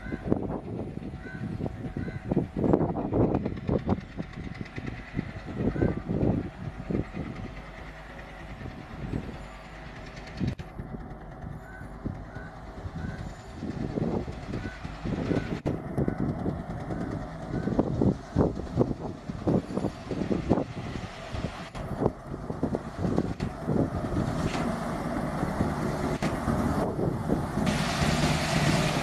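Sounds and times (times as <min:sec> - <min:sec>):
diesel locomotive engine chugging: 0:00.0 - 0:29.0.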